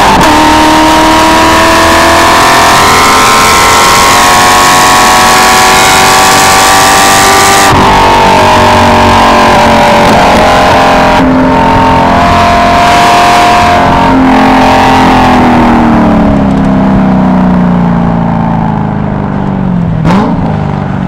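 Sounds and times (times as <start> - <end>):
car engine at high revs: 0.0 - 21.0
wind and road noise: 0.0 - 21.0.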